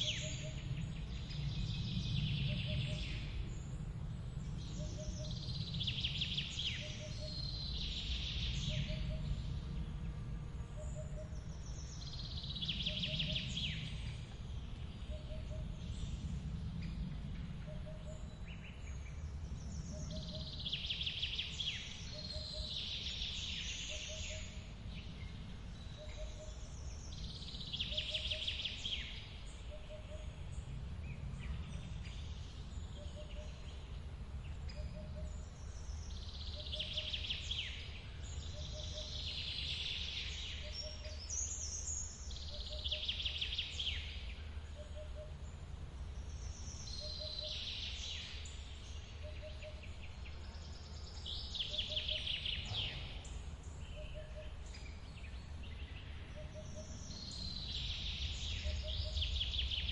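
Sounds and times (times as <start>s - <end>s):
bird singing trilling song: 0.0s - 59.9s.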